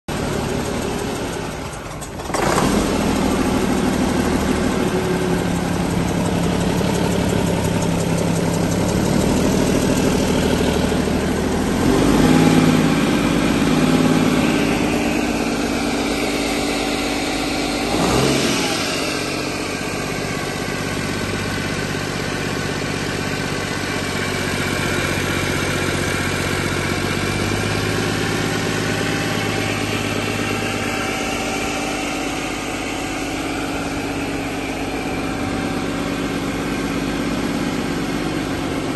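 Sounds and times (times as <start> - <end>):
diesel engine idling and revving: 0.1 - 38.9.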